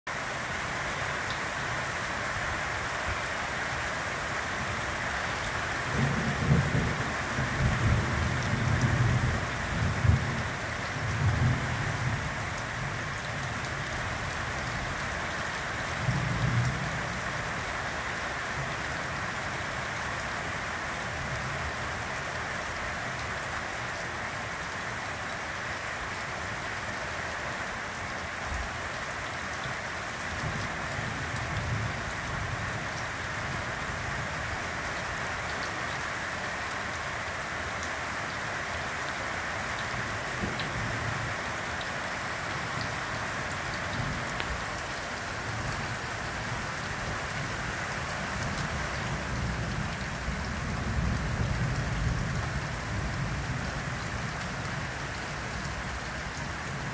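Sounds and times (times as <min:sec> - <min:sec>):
rain falling: 0:00.1 - 0:56.9.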